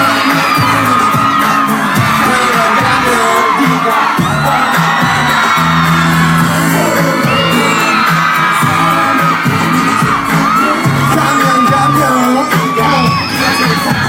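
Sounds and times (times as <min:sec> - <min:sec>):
crowd screaming and whooping: 0:00.0 - 0:14.0
pop music with bass line: 0:00.0 - 0:14.0.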